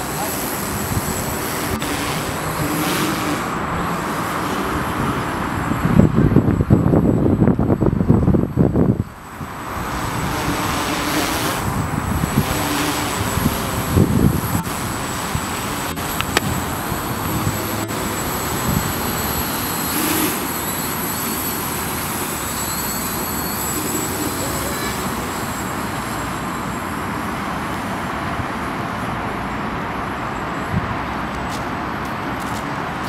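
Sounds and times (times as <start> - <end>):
quadcopter buzzing whir: 0.0 - 31.3.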